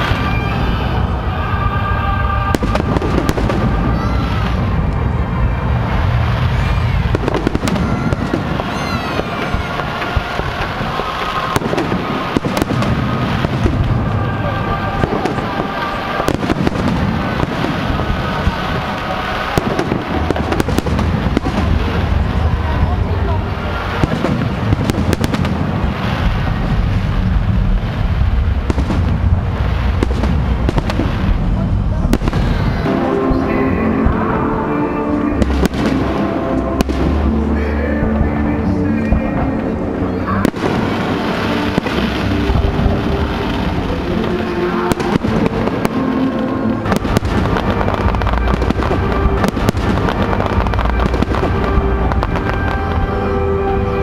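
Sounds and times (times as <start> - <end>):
firework sharp cracks: 0.0 - 1.7, 2.4 - 5.2, 5.8 - 37.7, 39.0 - 53.5
firework booms rumbling: 0.0 - 53.9.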